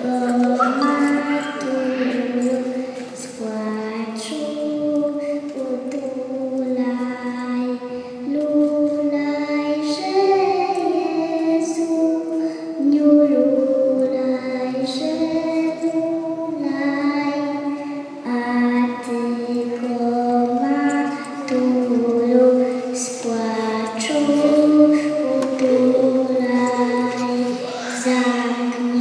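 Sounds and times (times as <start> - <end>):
girl singing a carol: 0.0 - 29.0.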